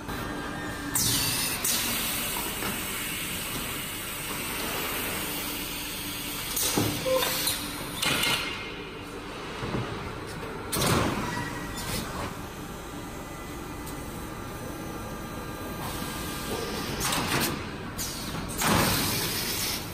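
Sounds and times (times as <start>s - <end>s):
machinery hum: 0.0s - 19.9s.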